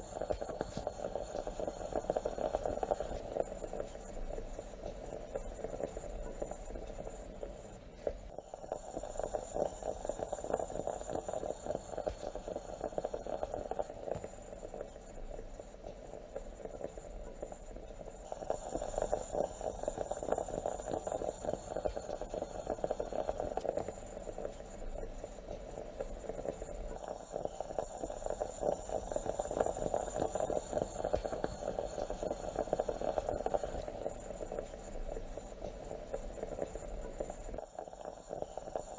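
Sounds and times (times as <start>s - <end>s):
moka pot gurgling: 0.0s - 38.9s.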